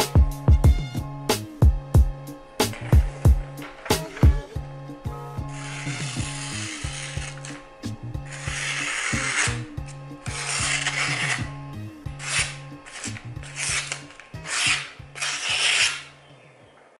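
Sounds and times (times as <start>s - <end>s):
knife slicing paper: 2.6s - 16.2s.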